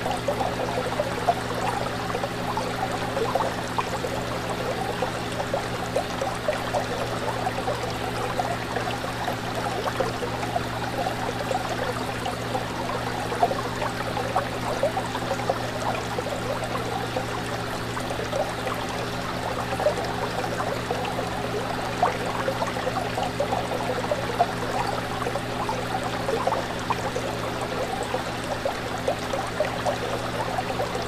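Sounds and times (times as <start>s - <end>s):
tank pump humming: 0.0s - 31.0s
water bubbling and trickling: 0.0s - 31.0s.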